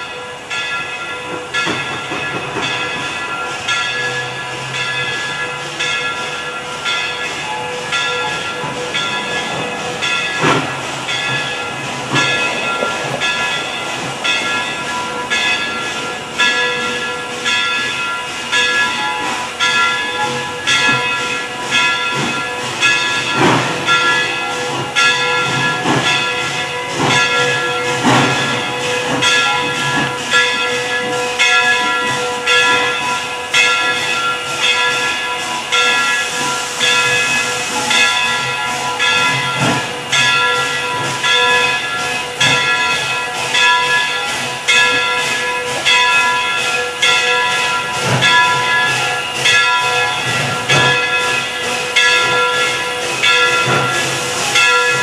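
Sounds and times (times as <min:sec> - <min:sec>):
locomotive bell ringing: 0:00.0 - 0:55.0
steam hissing: 0:00.0 - 0:55.0.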